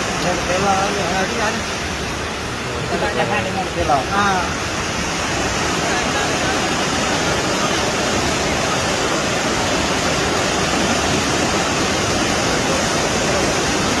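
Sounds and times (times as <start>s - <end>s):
flood water rushing: 0.0s - 14.0s.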